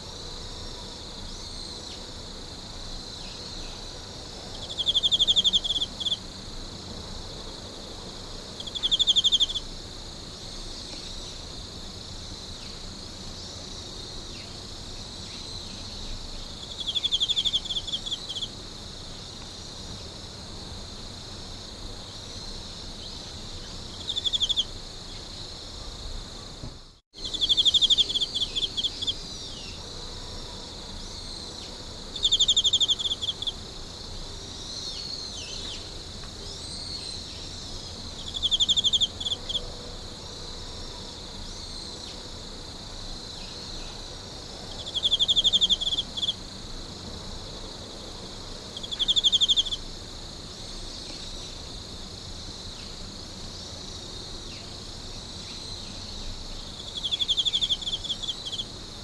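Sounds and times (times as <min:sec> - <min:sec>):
insect pulsed chirps: 0:00.0 - 0:26.0, 0:27.2 - 0:59.0
insect chorus shrilling: 0:00.0 - 0:59.0.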